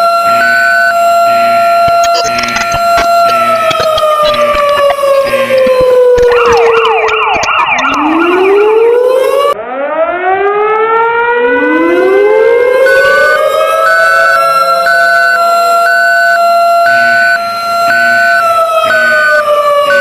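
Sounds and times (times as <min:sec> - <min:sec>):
emergency alert siren wailing: 0:00.0 - 0:20.0.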